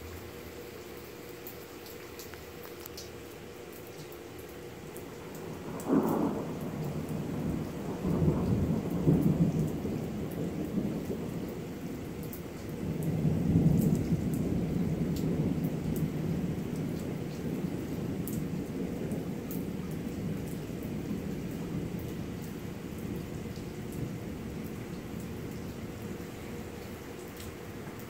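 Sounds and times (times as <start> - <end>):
steady rain: 0.0 - 28.0
thunder rumbling: 4.8 - 28.0.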